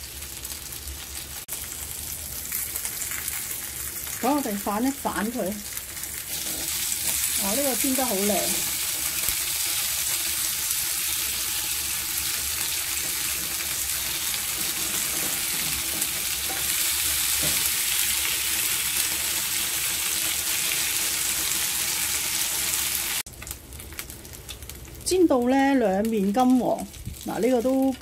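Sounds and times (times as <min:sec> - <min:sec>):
fish sizzling in grill pan: 0:00.0 - 0:28.0.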